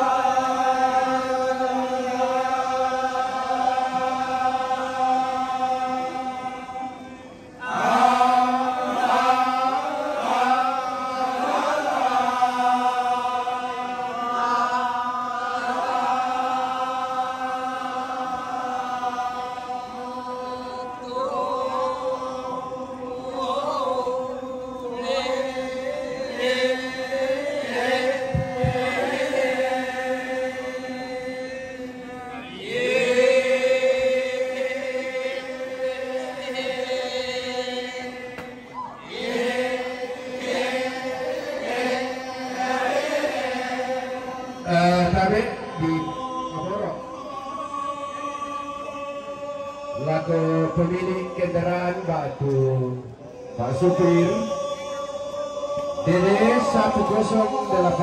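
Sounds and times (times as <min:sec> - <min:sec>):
group of voices chanting: 0:07.6 - 0:58.0.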